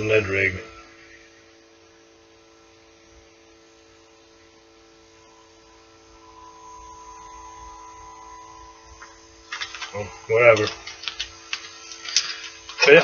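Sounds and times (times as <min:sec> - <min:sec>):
faint electrical hum: 0:00.0 - 0:13.0
higher steady tone: 0:02.4 - 0:13.0.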